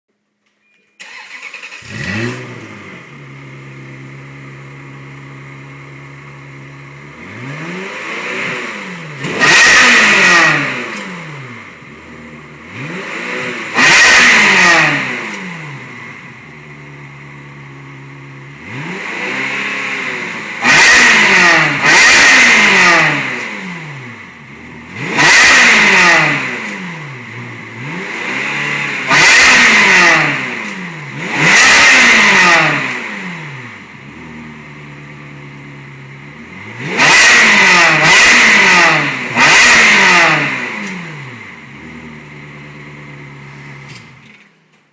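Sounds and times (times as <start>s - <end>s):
car engine revving: 1.0s - 44.4s.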